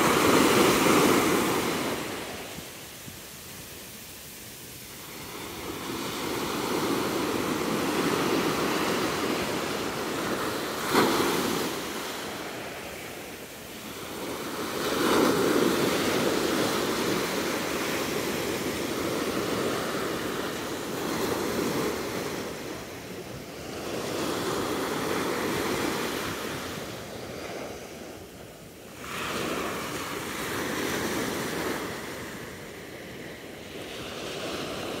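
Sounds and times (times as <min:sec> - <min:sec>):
small waves breaking on sand: 0:00.0 - 0:35.0.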